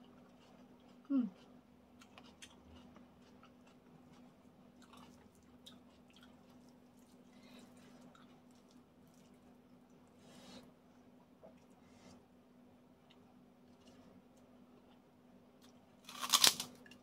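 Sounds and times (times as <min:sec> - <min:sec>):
faint chewing: 0:00.0 - 0:10.2, 0:13.0 - 0:17.0
low steady hum: 0:00.0 - 0:17.0.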